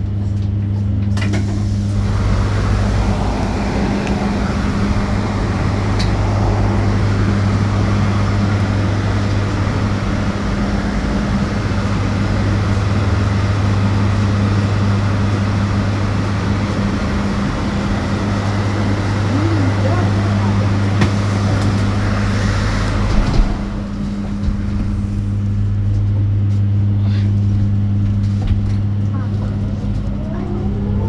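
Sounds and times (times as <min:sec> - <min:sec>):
constant low hum: 0:00.0 - 0:31.0
road and tyre noise: 0:00.0 - 0:31.0.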